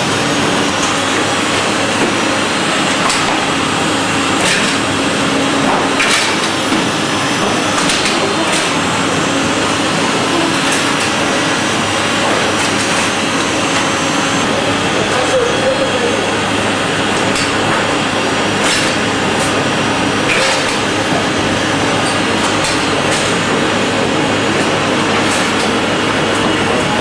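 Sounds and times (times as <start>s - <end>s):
mill machinery running: 0.0s - 27.0s.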